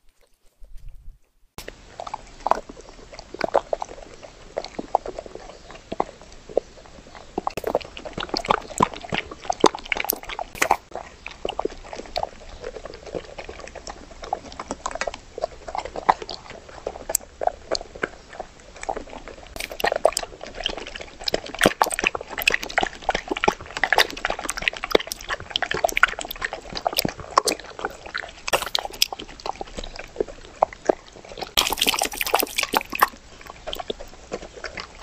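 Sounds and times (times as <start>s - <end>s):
dog crunching and chewing: 1.6s - 35.0s.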